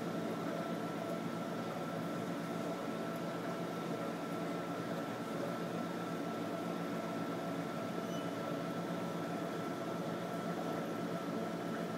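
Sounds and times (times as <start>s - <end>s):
mechanical hum and hiss: 0.0s - 11.9s.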